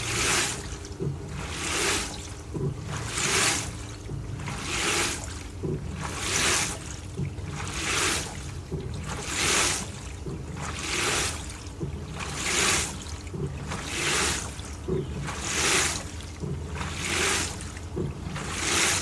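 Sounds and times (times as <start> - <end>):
washing machine motor hum: 0.0 - 19.0
water sloshing: 0.0 - 19.0.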